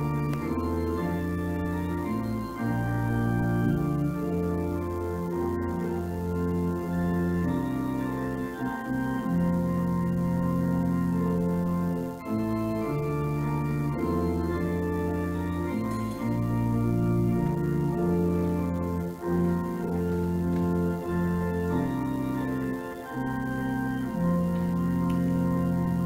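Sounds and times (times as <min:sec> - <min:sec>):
organ playing slow chords: 0:00.0 - 0:26.0.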